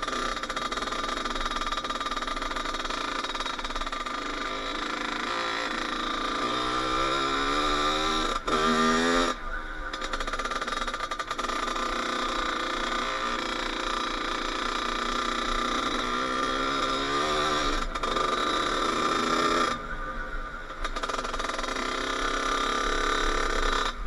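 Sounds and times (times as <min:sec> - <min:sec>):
dirt bike engine revving: 0:00.0 - 0:20.2, 0:20.8 - 0:24.0.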